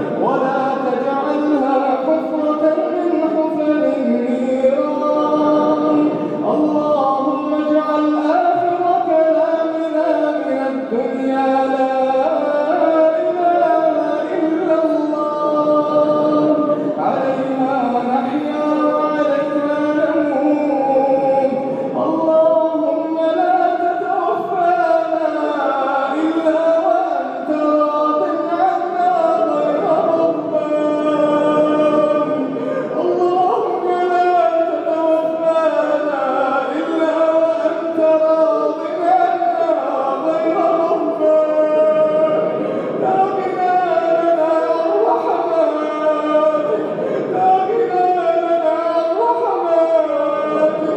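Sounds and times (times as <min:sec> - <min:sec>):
man chanting melodically: 0:00.0 - 0:50.9.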